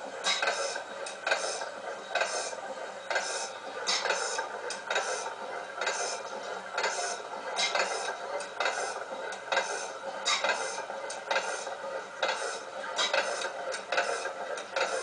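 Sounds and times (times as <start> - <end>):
gas engine clattering beats: 0.0 - 15.0
steady mechanical clatter: 0.0 - 15.0.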